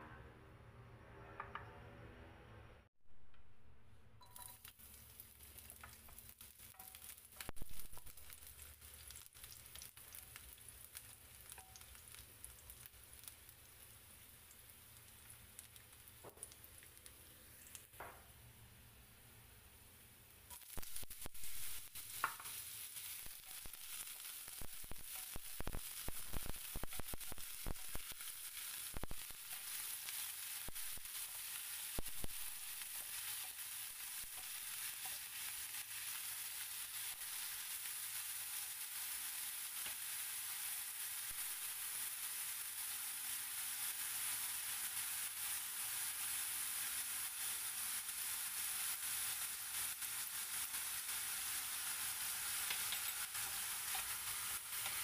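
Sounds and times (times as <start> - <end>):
mushrooms sizzling in hot oil: 4.2 - 18.4, 19.0 - 55.0.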